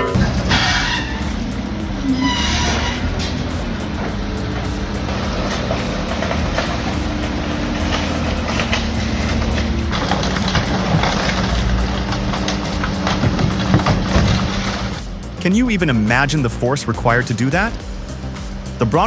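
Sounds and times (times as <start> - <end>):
shredding machine drone: 0.0 - 19.0.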